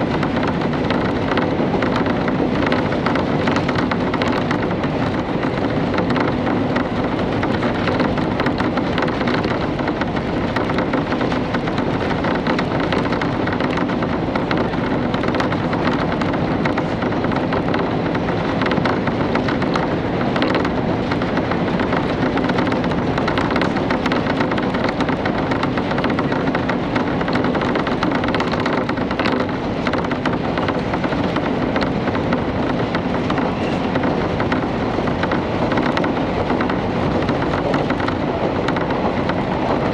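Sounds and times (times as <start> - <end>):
light clicks and rattles: 0.0 - 39.9
railcar engine and wheels rumbling: 0.0 - 39.9.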